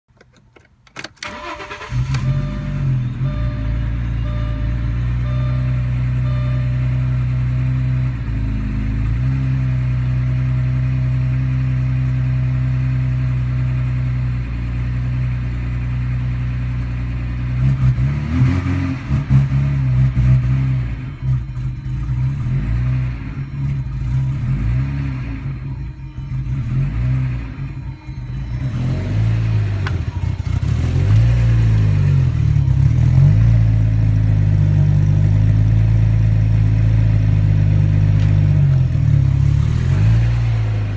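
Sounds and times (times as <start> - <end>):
car engine idling and revving: 0.2 - 40.9.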